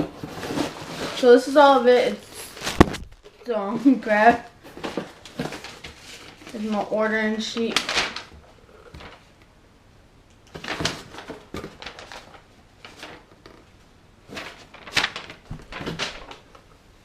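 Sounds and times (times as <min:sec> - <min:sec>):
paper and plastic packaging rustling: 0:00.0 - 0:09.4, 0:10.5 - 0:16.7.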